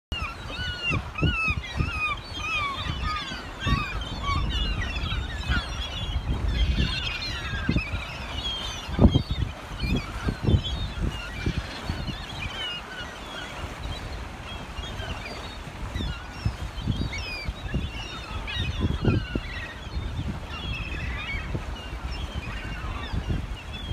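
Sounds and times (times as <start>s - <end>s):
gulls calling: 0.1s - 23.9s.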